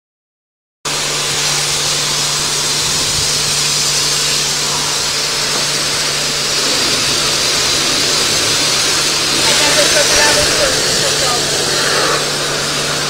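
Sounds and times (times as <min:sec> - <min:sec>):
pressure washer spraying: 0:00.9 - 0:13.0
steady low hum: 0:00.9 - 0:13.0.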